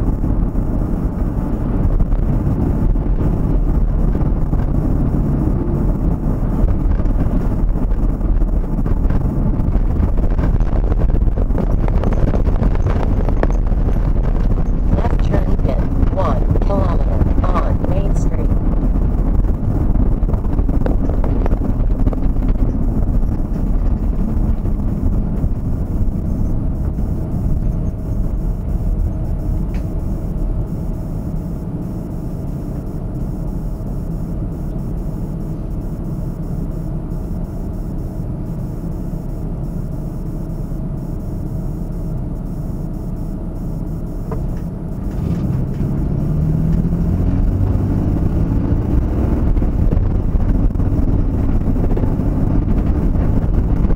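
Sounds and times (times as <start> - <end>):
vehicle engine and tyre rumble: 0.0 - 53.9.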